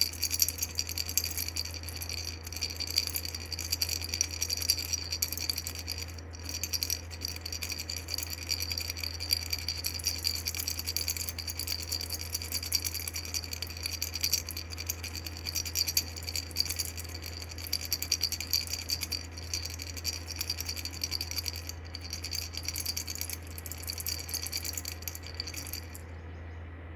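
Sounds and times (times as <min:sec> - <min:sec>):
plastic baby rattle shaking: 0:00.0 - 0:26.0.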